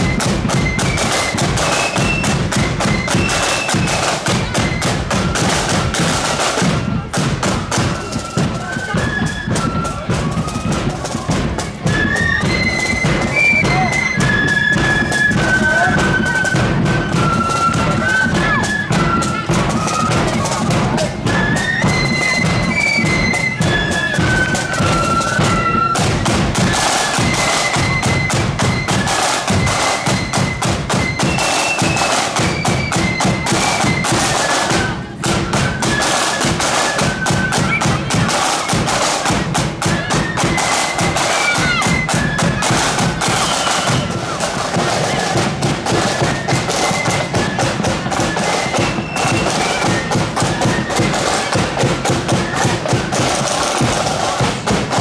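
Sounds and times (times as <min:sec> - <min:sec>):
flute melody: 0:00.0 - 0:55.0
marching drums beating: 0:00.0 - 0:55.0.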